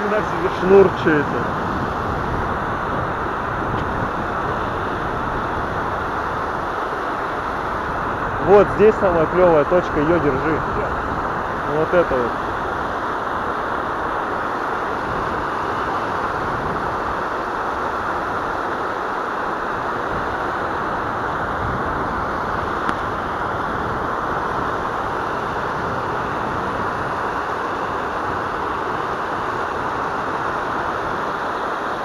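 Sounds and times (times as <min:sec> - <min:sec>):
white water rushing over rapids: 0:00.0 - 0:32.0.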